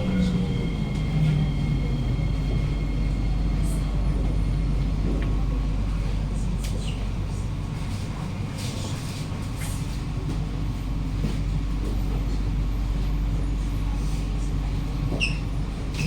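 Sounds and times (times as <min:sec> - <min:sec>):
train carriage rumble and hum: 0:00.0 - 0:16.0.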